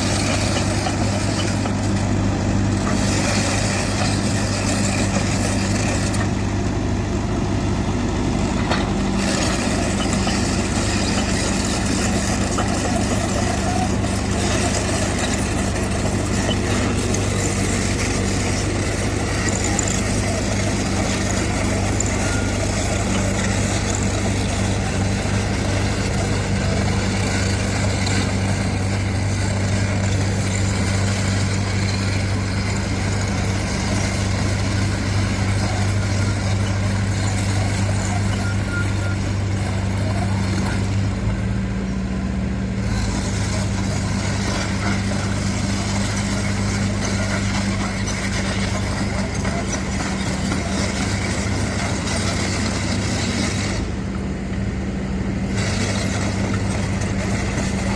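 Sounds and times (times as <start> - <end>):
heavy diesel machinery humming: 0.0 - 57.9.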